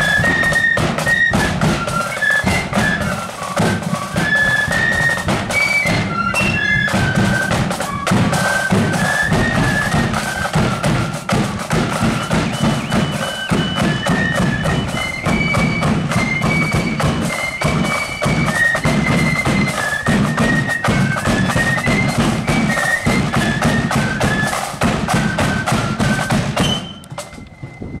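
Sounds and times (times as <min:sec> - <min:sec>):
drums beating march rhythm: 0:00.0 - 0:28.0
high flute melody: 0:00.0 - 0:28.0.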